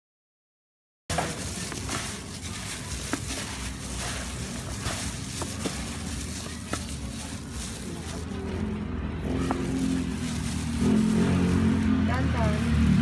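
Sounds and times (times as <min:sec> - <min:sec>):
plastic gloves crinkling: 0:01.1 - 0:13.0.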